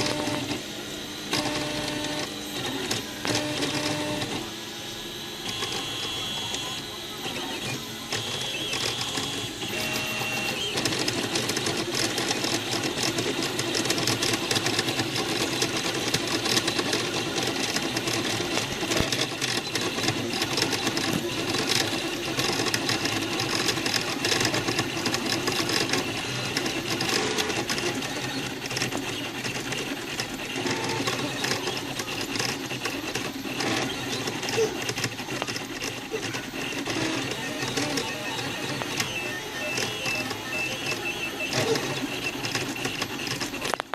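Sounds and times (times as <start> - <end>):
three-d printer motors whirring: 0.0 - 43.9.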